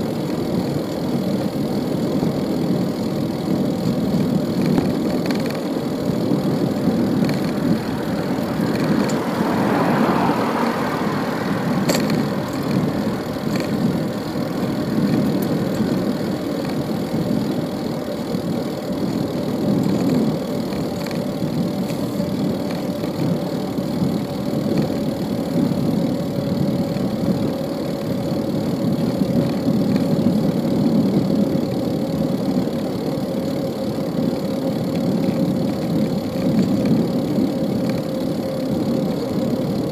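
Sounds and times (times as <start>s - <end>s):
city street traffic: 0.0s - 39.9s.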